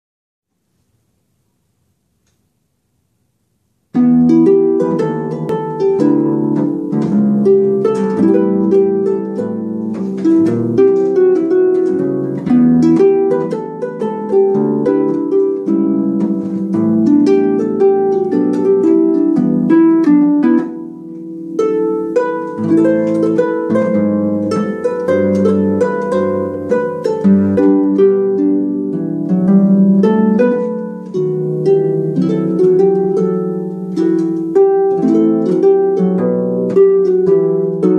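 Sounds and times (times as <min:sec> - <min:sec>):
harp playing jazz: 0:03.9 - 0:37.9.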